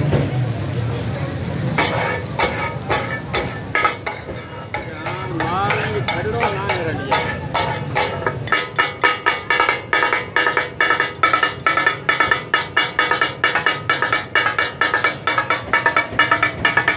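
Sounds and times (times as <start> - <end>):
frying sizzle: 0.0 - 16.9
spatulas clanging on a griddle: 1.6 - 16.9.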